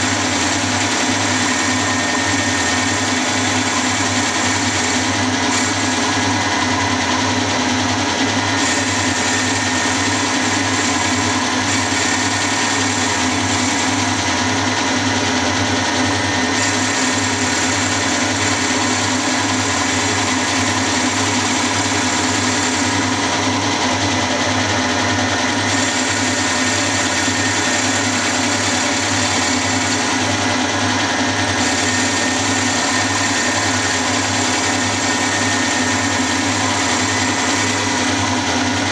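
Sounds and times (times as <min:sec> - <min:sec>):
milling machine humming: 0:00.0 - 0:38.9.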